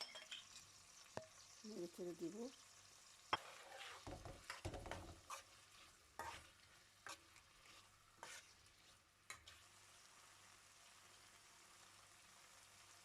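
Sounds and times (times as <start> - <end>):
faint sizzle: 0.0 - 13.0
spoon stirring in frying pan: 0.0 - 13.0.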